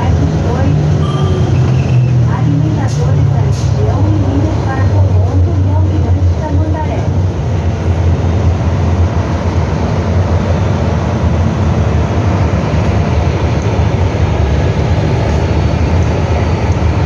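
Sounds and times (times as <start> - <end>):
bus diesel engine rumble: 0.0 - 17.0
road noise: 0.0 - 17.0.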